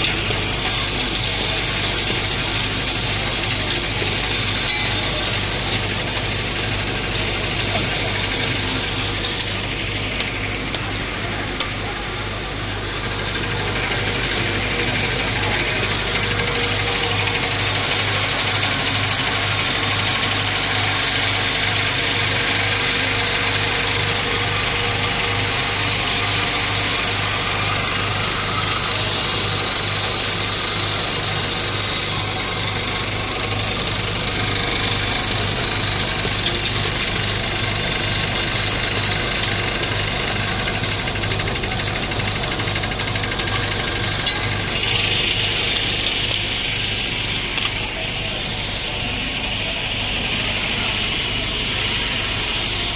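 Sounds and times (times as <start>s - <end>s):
thread rolling machine humming: 0.0s - 52.9s.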